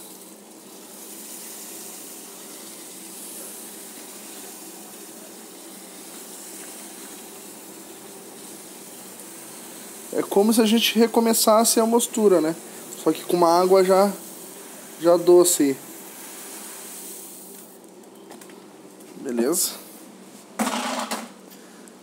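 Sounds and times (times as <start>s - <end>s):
grain pouring into kettle: 0.0s - 17.8s.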